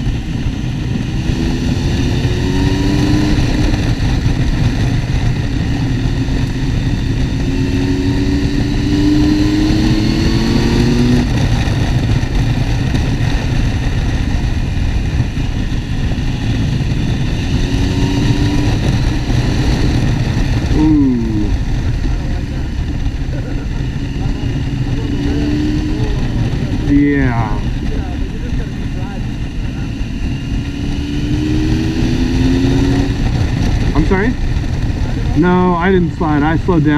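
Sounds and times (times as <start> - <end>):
motorcycle engine running: 0.0 - 36.9
wind and road noise: 0.0 - 36.9.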